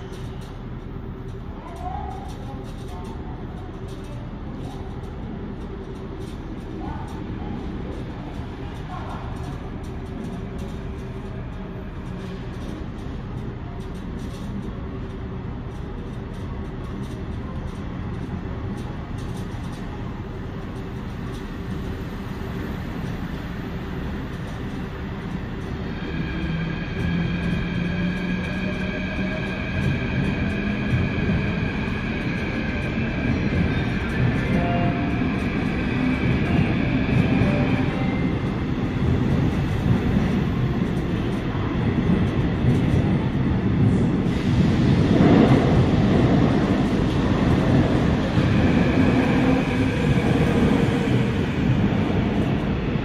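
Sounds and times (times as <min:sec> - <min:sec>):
subway train rumble in tunnel: 0:00.0 - 0:53.0.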